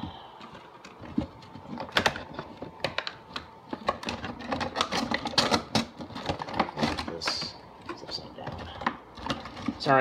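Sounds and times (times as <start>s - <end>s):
plastic and cardboard packaging clicks: 0.0s - 10.0s.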